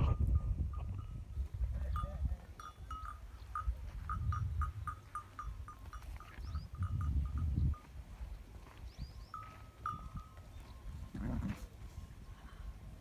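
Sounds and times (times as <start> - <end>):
animal neck bells clanking: 0.1 - 8.0, 8.6 - 13.0.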